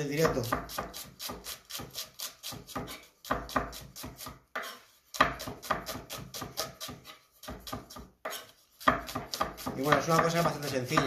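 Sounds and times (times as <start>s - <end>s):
knife chopping on plastic board: 0.2s - 11.0s.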